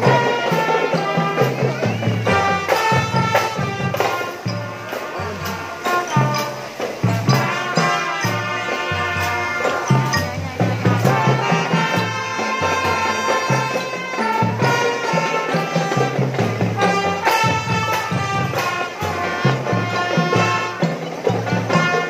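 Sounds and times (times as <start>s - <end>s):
bass drums beat: 0.0s - 22.0s
marching drum band: 0.0s - 22.0s
snare and cymbal hits: 0.0s - 22.0s.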